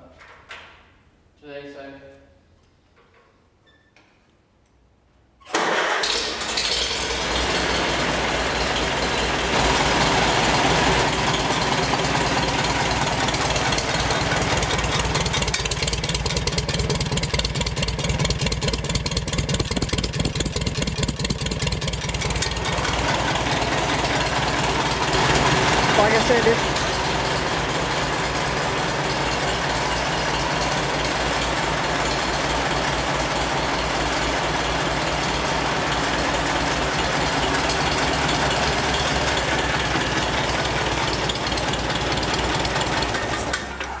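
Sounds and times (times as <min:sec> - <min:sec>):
tractor engine starting and running: 0:05.4 - 0:44.0.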